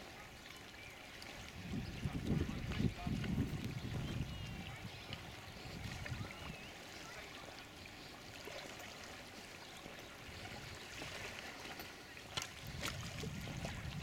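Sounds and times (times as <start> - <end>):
paddles trickling and splashing water: 0.0 - 14.0.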